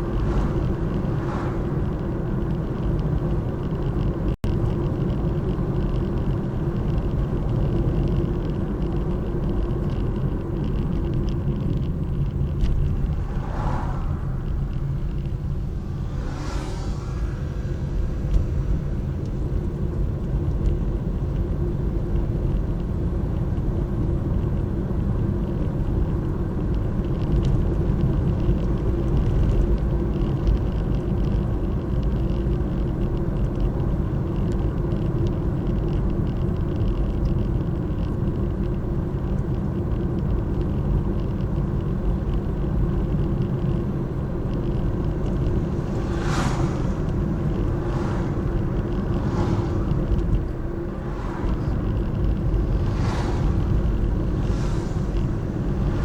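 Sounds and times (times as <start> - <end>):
car and road rumble: 0.0 - 56.0.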